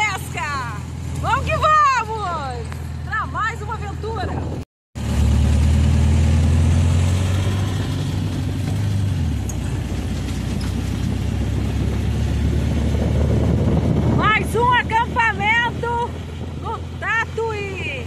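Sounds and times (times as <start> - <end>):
road and wind rumble: 0.0 - 18.0
small vehicle engine running: 0.0 - 18.0.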